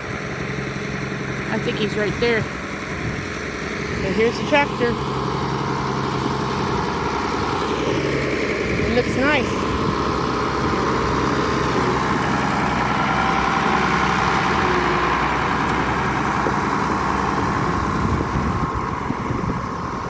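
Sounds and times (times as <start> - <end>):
tractor engine running: 0.0 - 20.0
tyres on gravel: 0.1 - 20.0.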